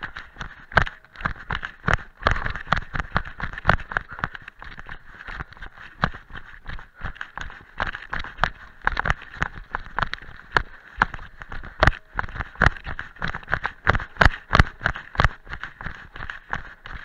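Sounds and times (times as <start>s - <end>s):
running footsteps on dry leaves: 0.0s - 17.0s.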